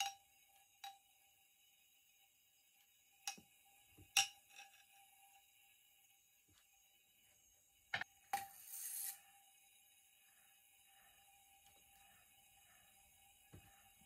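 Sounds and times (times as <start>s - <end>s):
plasma lamp high whine: 0.0s - 14.0s.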